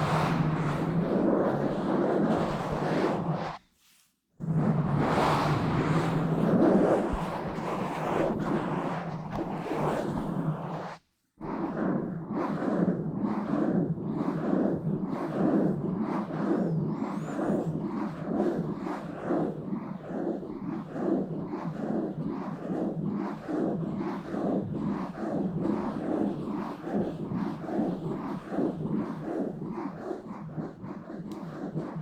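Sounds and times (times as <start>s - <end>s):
microphone being rubbed and scratched: 0.0s - 3.6s, 4.4s - 32.0s.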